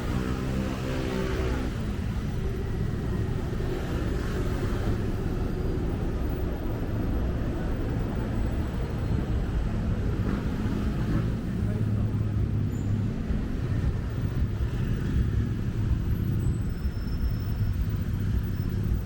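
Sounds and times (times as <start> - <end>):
city road traffic rumble: 0.0 - 19.0.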